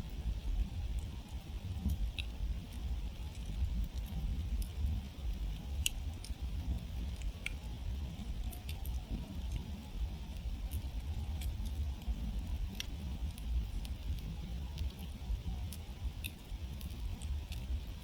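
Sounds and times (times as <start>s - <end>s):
low fire rumble: 0.0s - 18.0s
wood campfire crackling: 0.0s - 18.0s.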